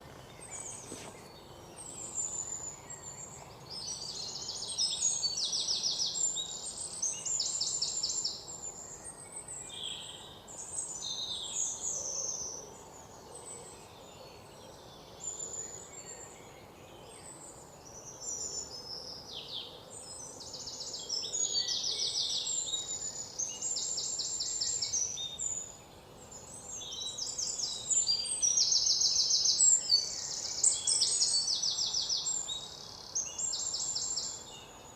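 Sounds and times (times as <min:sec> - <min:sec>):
birds chirping and trilling: 0:00.0 - 0:34.9
faint steady hiss: 0:00.0 - 0:34.9.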